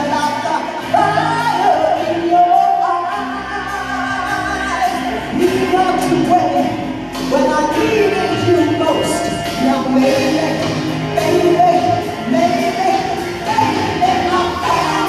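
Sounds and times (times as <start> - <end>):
backing music: 0.0 - 15.0
woman singing rock ballad: 0.0 - 15.0.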